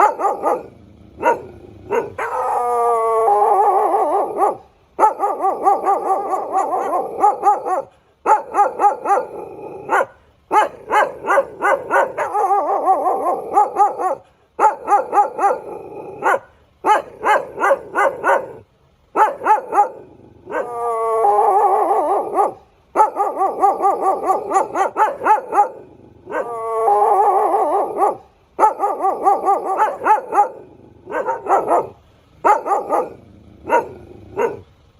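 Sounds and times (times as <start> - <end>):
dog howling: 0.0 - 18.6, 19.2 - 34.6
dog barking and yipping: 0.0 - 34.8.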